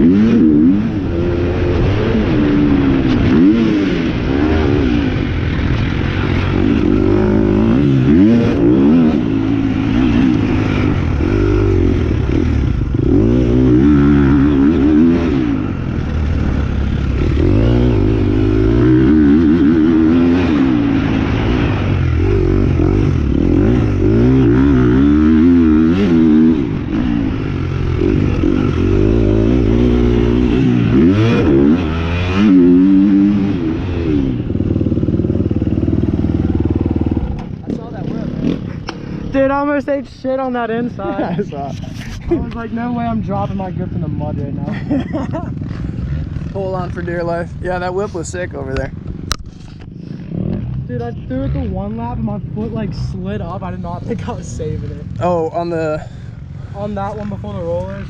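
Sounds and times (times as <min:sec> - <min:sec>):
dirt bike engine revving: 0:00.0 - 0:41.5, 0:42.3 - 0:58.0.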